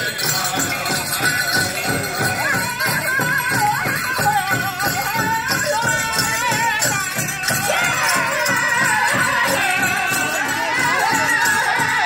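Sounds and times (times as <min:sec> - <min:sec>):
big drum beat: 0:00.0 - 0:12.0
group singing high vocals: 0:00.0 - 0:12.0
jingling bells: 0:00.0 - 0:12.0.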